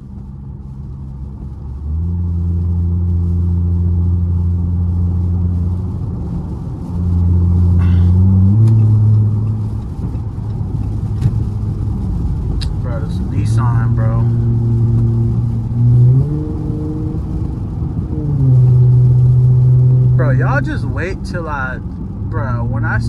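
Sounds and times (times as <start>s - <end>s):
car engine droning in cabin: 0.0s - 23.0s.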